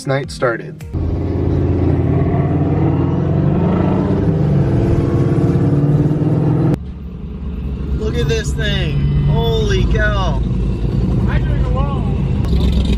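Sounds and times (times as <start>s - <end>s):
car engine running: 0.9s - 12.9s.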